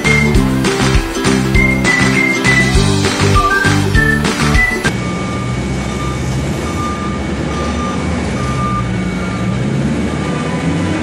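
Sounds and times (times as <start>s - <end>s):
forklift engine running: 0.0s - 11.0s
reversing alarm beeping: 1.6s - 10.6s.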